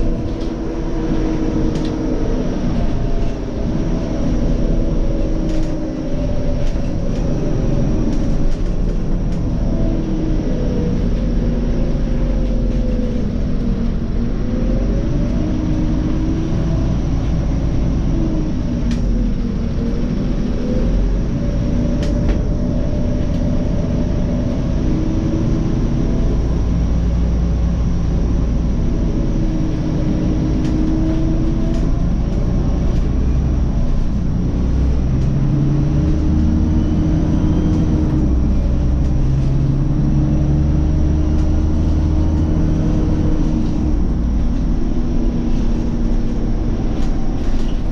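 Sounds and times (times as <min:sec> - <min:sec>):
bus engine rumbling: 0:00.0 - 0:47.9
drivetrain whine: 0:00.0 - 0:47.9.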